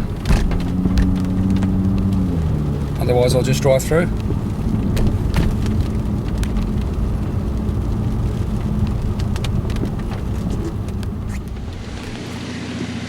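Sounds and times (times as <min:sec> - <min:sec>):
car engine running: 0:00.0 - 0:13.0
tyre noise on wet road: 0:00.0 - 0:13.0.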